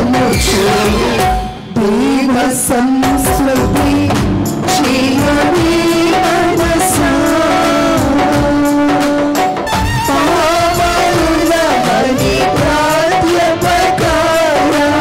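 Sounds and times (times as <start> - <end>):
drums keeping the beat: 0.0 - 15.0
women singing into microphones: 0.0 - 15.0.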